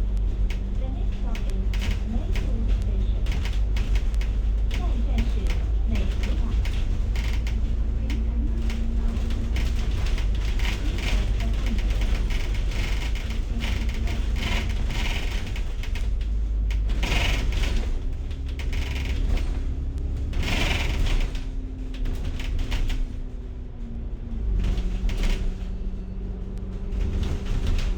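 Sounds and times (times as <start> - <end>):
bus engine and road rumble: 0.0 - 27.9
bus fittings rattling: 0.0 - 27.9
faint drivetrain whine: 0.0 - 27.9.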